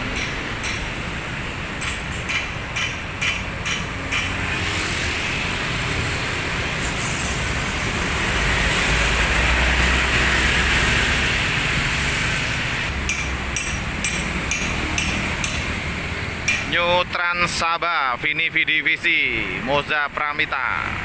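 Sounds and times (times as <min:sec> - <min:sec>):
bus engine rumble: 0:00.0 - 0:18.5
street traffic: 0:00.0 - 0:21.0.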